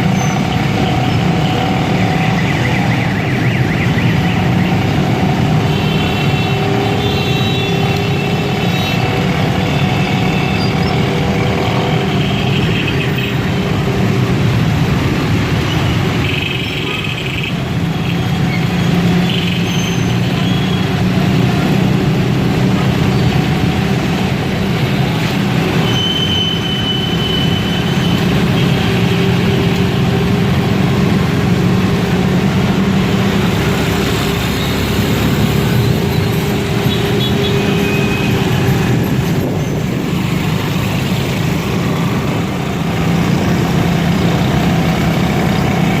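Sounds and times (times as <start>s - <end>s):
road noise: 0.0s - 46.0s
vehicle engine drone: 0.0s - 46.0s.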